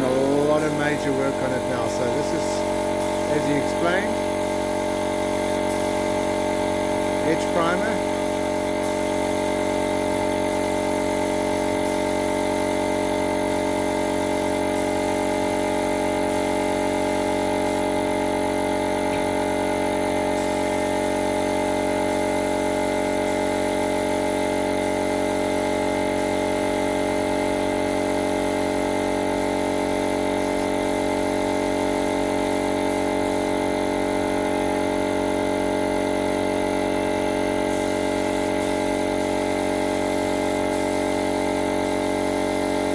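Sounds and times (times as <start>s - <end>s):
machine humming steadily: 0.0s - 42.9s.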